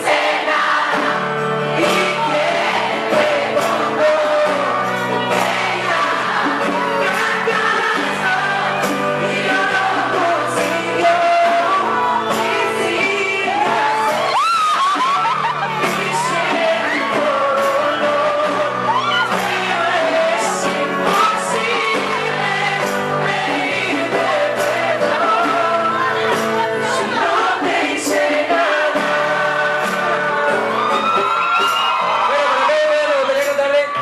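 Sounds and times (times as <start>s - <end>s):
drums and cymbals striking: 0.0s - 32.3s
voices singing together: 0.0s - 32.8s
live band playing: 0.0s - 34.0s.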